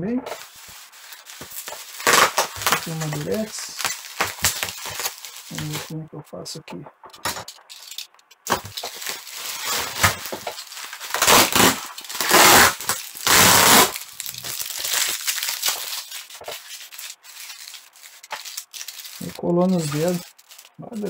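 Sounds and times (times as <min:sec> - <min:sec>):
bubble wrap crinkling: 0:00.3 - 0:06.0, 0:07.5 - 0:21.0.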